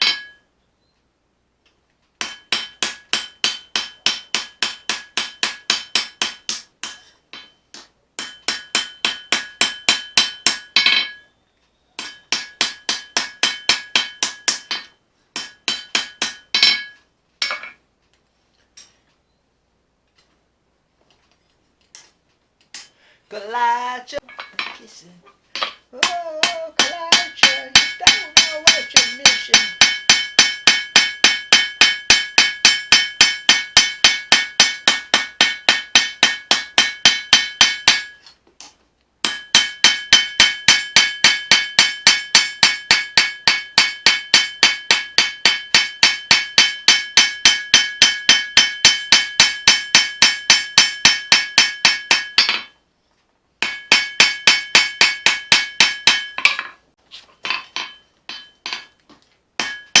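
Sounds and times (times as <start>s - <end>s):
hammer striking steel on anvil: 0.0s - 0.5s, 2.2s - 11.3s, 12.0s - 17.8s, 24.2s - 24.9s, 25.5s - 38.4s, 39.2s - 52.8s, 53.6s - 56.8s, 57.4s - 60.0s.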